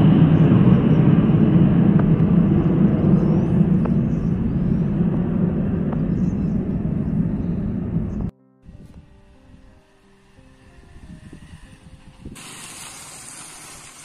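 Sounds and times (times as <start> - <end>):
jet aircraft passing overhead: 0.0 - 14.0.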